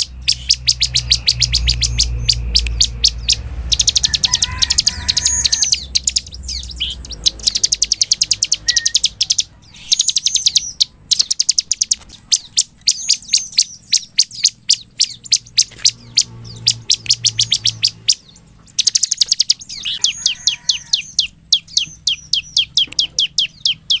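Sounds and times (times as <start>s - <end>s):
bird singing high chipping notes: 0.0s - 24.0s.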